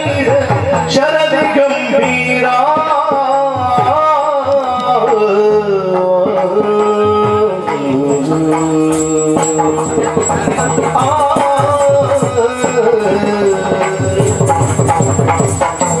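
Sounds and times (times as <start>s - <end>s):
drum strokes: 0.0s - 16.0s
person singing melodic line: 0.0s - 16.0s.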